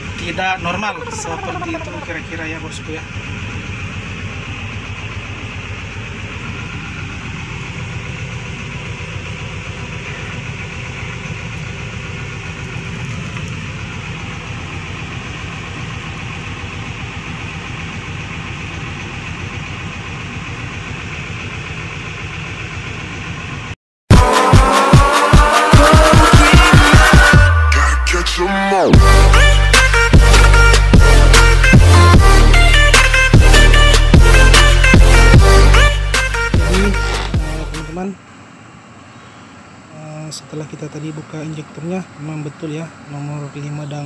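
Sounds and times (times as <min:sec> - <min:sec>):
diesel engine low pulsing: 0:00.0 - 0:44.0.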